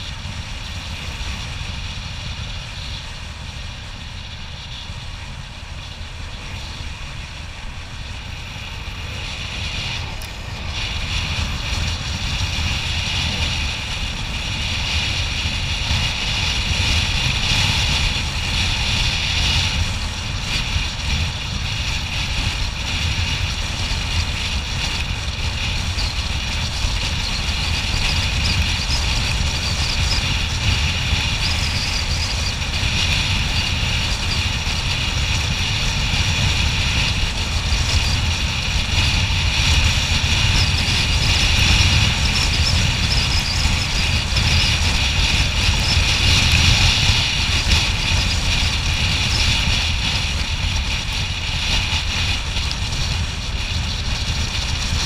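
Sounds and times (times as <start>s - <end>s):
scooter engine rumble: 0.0s - 55.0s
wind buffeting microphone: 0.0s - 55.0s.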